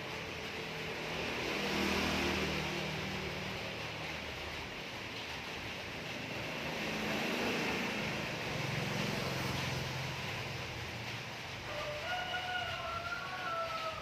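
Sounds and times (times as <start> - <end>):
steady background noise: 0.0 - 14.0
vehicle engine hum: 0.0 - 14.0.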